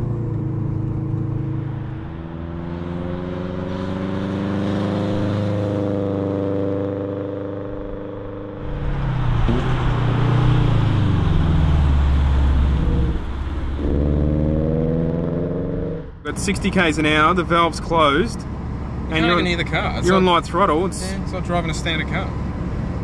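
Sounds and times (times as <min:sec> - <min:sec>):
car engine driving by: 0:00.0 - 0:22.8.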